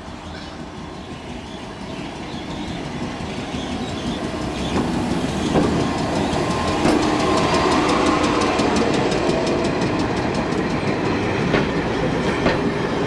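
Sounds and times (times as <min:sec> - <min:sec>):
train wheels clicking over rail joints: 0:01.8 - 0:13.0.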